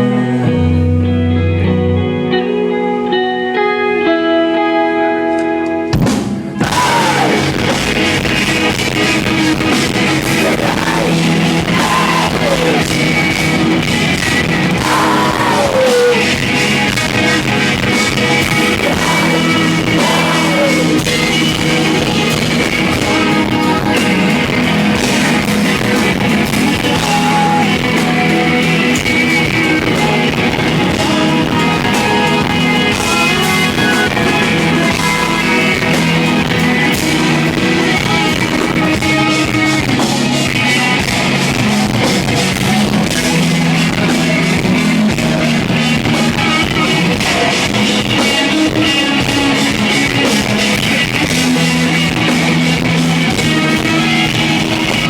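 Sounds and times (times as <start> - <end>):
clean electric guitar line: 0.0 - 55.0
rock band playing loudly: 0.0 - 55.0.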